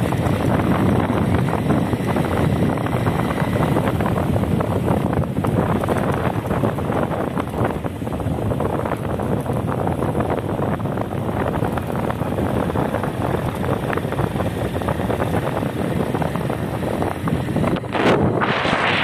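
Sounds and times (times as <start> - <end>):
moving vehicle rumble: 0.0 - 19.0
wind buffeting microphone: 0.0 - 19.0.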